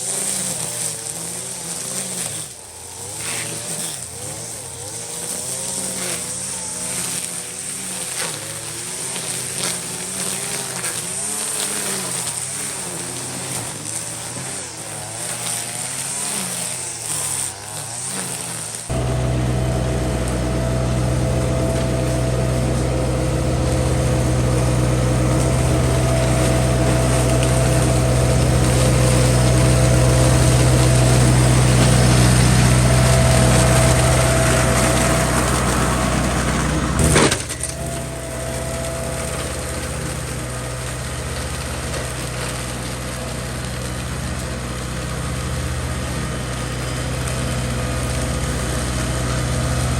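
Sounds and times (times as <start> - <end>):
small gasoline engine droning: 0.0 - 49.9.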